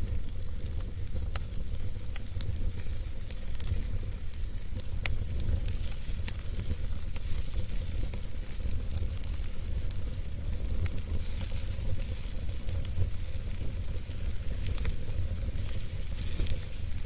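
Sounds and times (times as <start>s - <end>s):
fire crackling and popping: 0.0s - 17.0s
wood fire rumbling and hissing: 0.0s - 17.0s.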